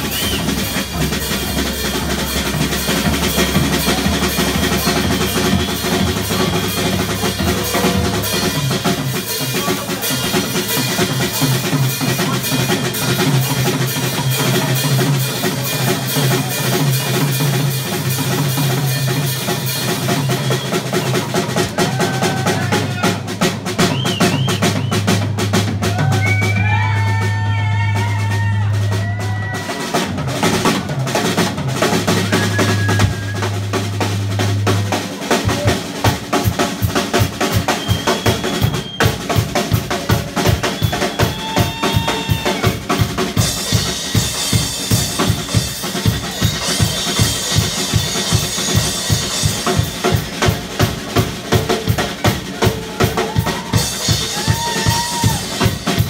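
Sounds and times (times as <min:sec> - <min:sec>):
rock drum solo: 0:00.0 - 0:56.0.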